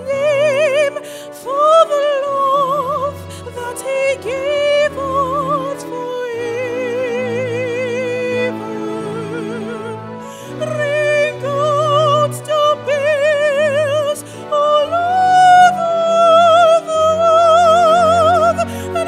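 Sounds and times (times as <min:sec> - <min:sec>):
woman singing operatically: 0:00.0 - 0:19.0.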